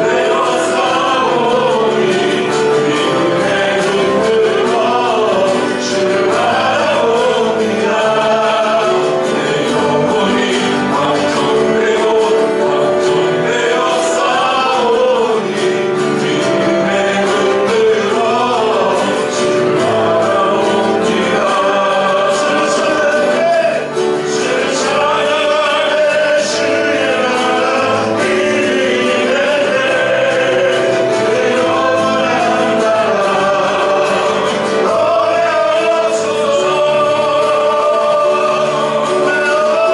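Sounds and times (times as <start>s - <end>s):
group singing a worship song: 0.0s - 39.9s.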